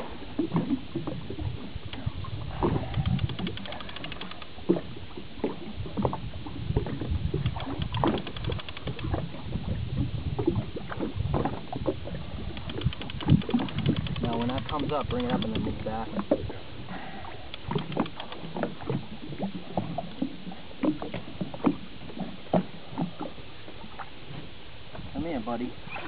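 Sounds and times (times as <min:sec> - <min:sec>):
water sloshing against hull: 0:00.0 - 0:26.0.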